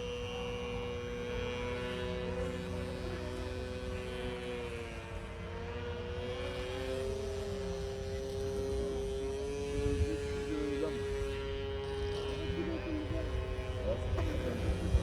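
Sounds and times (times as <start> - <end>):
model boat motors whining: 0.0 - 15.0.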